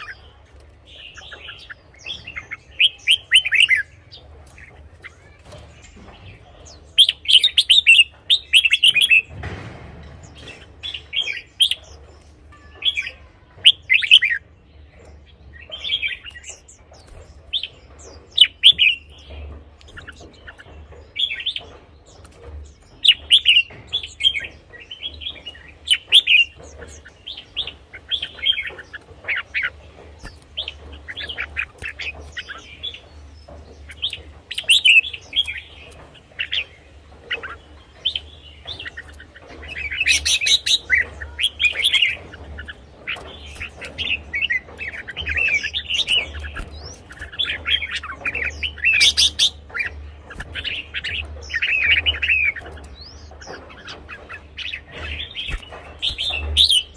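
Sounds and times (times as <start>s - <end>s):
bulbul singing warbled phrases: 0.0s - 9.3s, 10.3s - 56.9s.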